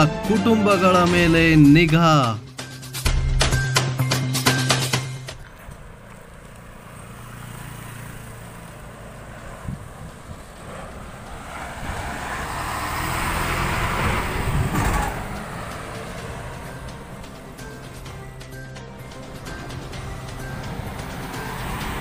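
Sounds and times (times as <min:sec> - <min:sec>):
bus engine rumble: 0:02.6 - 0:22.0
motorcycles: 0:03.3 - 0:22.0.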